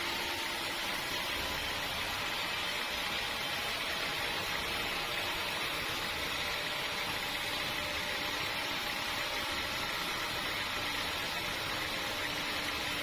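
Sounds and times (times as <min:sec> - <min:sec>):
sawmill machinery running: 0:00.0 - 0:13.0.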